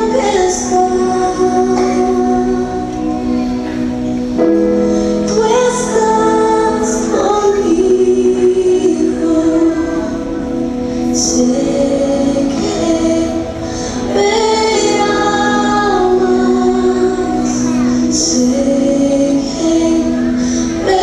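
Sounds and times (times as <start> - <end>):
women singing worship song: 0.0 - 3.3, 5.2 - 21.0
worship music: 0.0 - 21.0.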